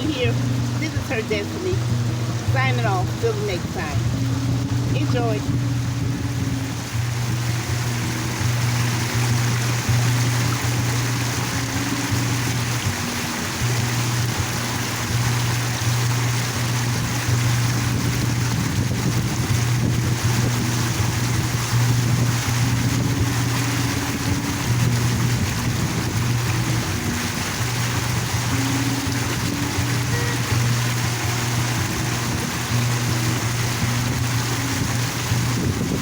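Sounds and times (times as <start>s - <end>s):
soft background music: 0.0s - 36.0s
water fountain splashing: 0.0s - 36.0s.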